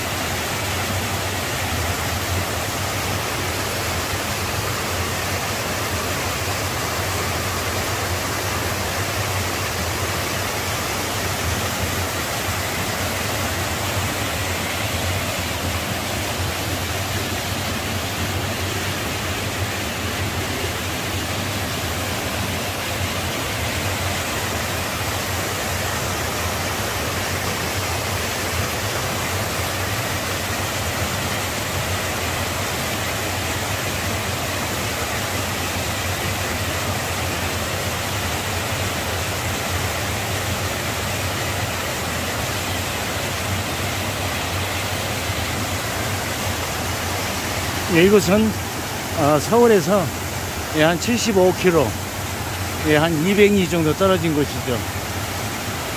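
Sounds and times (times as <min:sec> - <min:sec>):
stream rushing over boulders: 0:00.0 - 0:55.9.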